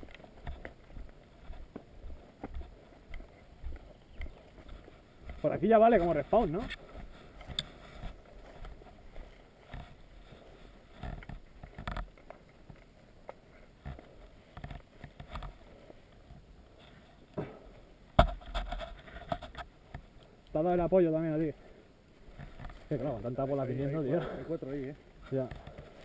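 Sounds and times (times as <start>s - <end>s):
footsteps on rough ground: 0.0s - 26.0s
rustling through brush: 0.0s - 26.0s.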